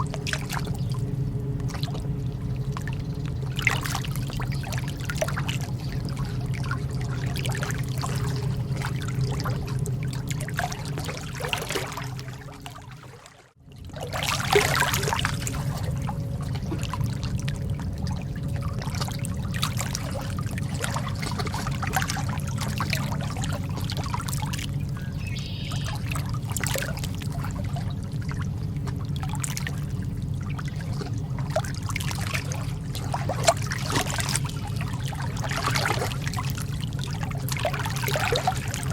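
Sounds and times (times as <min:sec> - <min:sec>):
lake water lapping: 0:00.0 - 0:38.9
steady low rumble: 0:00.0 - 0:38.9.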